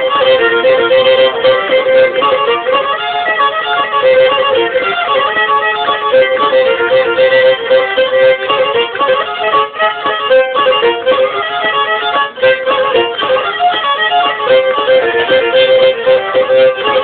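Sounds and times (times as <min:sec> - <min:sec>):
bowed fiddle folk tune: 0:00.0 - 0:17.0.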